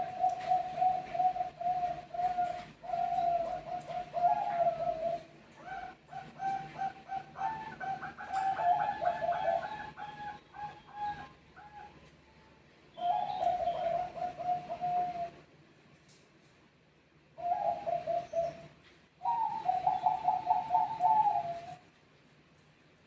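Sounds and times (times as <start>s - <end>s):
doves cooing: 0.0s - 12.1s, 13.0s - 15.5s, 17.4s - 21.9s.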